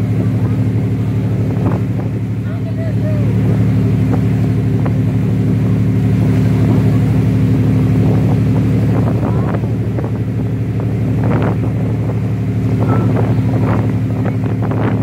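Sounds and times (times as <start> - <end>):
boat engine droning: 0.0 - 15.0
water splashing from wake: 0.0 - 15.0.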